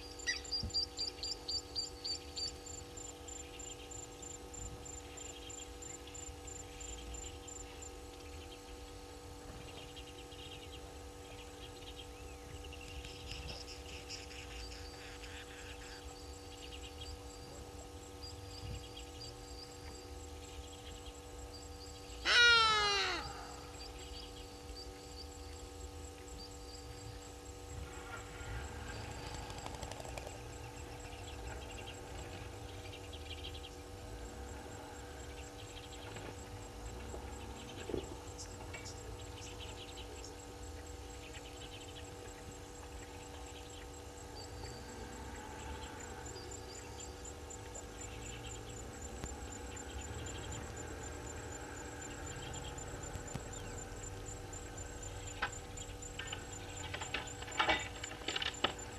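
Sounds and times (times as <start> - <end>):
steady electrical hum: 0.0 - 58.9.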